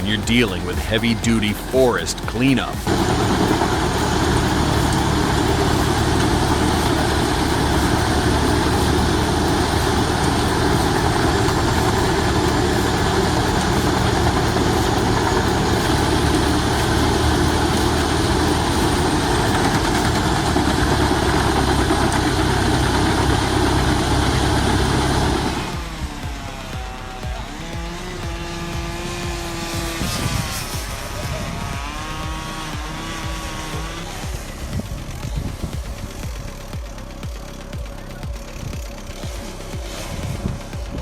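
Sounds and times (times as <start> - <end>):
timber shredder grinding: 2.2 - 41.0.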